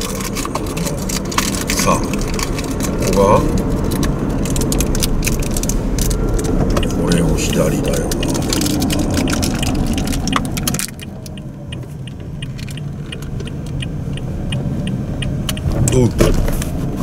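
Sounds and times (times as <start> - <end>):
car road noise: 0.0 - 17.0
turn signal ticking: 0.0 - 17.0.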